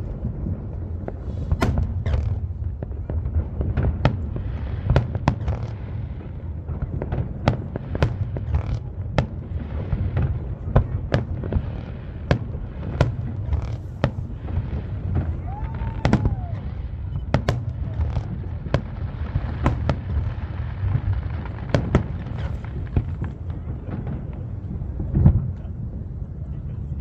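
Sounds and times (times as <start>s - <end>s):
firework bangs: 0.0s - 26.2s
firework crackling: 0.0s - 26.9s
low rumble of booms: 0.0s - 27.0s.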